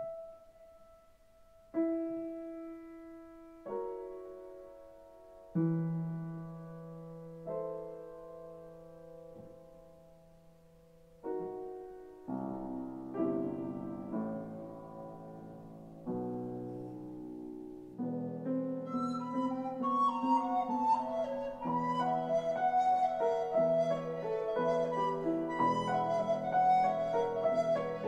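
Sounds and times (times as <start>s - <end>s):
piano chords: 0.0s - 28.0s.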